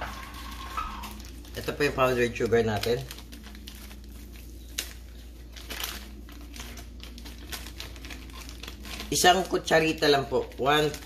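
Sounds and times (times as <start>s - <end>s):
packet crinkling: 0.0s - 11.0s.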